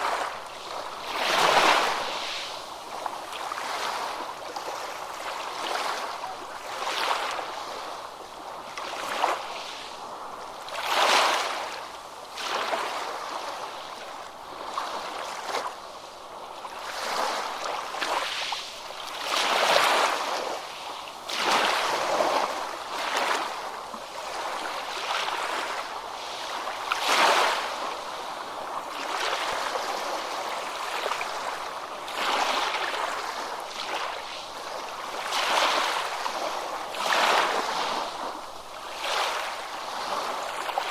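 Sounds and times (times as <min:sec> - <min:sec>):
ocean waves breaking: 0:00.0 - 0:09.9, 0:16.8 - 0:40.9.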